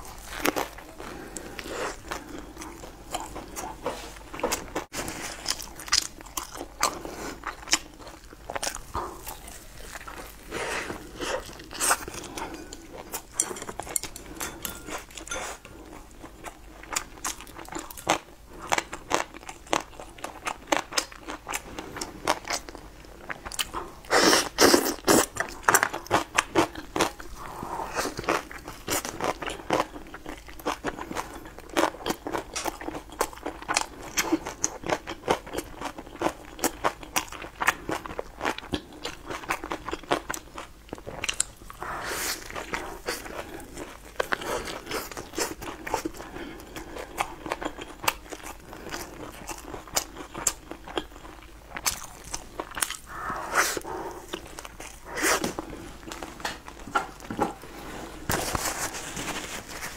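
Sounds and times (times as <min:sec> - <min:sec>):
crunching and chewing pastry: 0:00.0 - 0:59.9.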